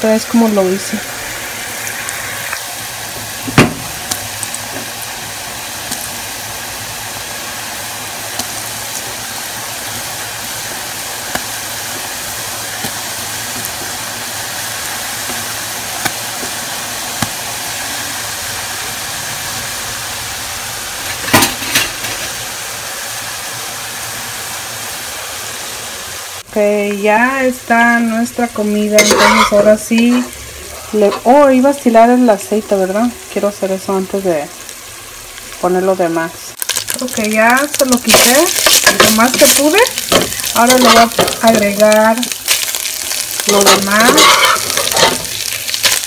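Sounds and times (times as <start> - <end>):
food deep-frying in oil: 0.0 - 46.0.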